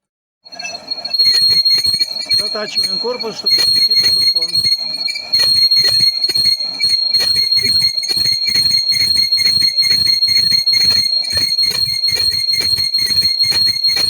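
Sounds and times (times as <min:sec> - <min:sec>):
lathe cutting with pulsing whine: 0:00.6 - 0:14.0.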